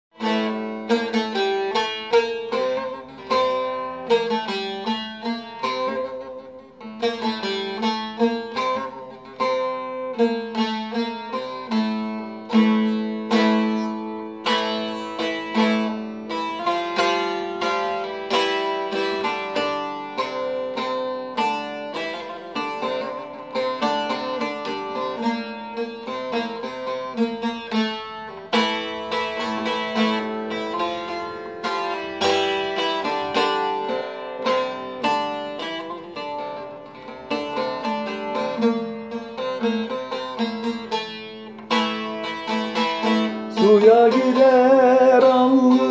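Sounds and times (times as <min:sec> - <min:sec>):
plucked string folk music: 0:00.0 - 0:45.9.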